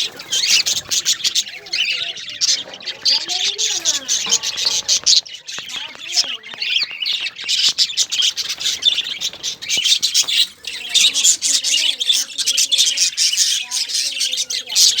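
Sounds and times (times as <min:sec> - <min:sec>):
cockatiels chirping and squawking: 0:00.0 - 0:15.0.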